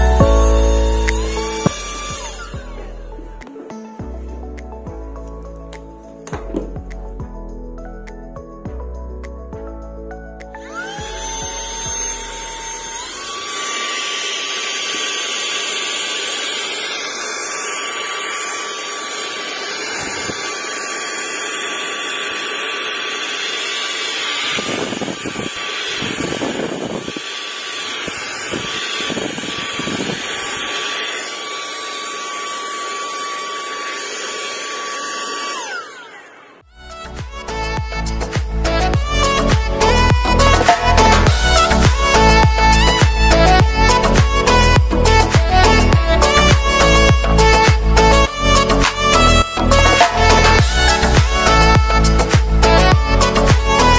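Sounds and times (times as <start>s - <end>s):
handheld vacuum motor whining: 0.0s - 3.8s, 10.6s - 53.9s.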